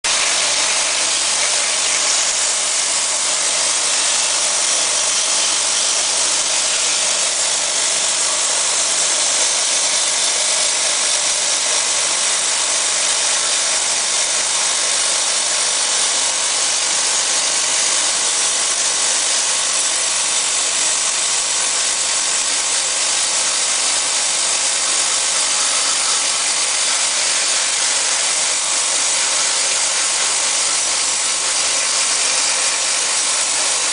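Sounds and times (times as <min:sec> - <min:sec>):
sprayer motor running: 0:00.0 - 0:33.9.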